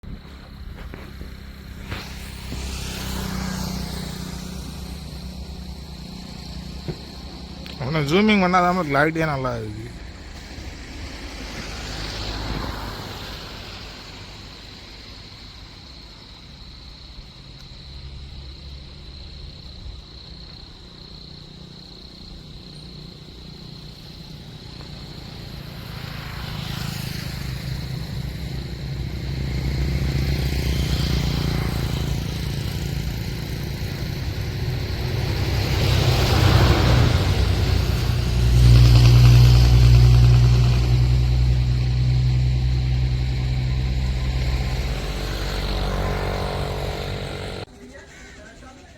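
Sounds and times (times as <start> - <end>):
motor engines running: 0.0 - 14.8, 22.0 - 48.6
vehicles passing close by: 0.0 - 48.9.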